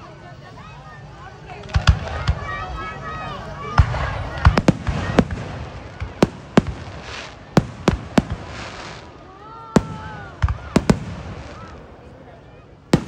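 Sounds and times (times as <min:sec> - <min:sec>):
fireworks bangs: 0:01.3 - 0:13.0.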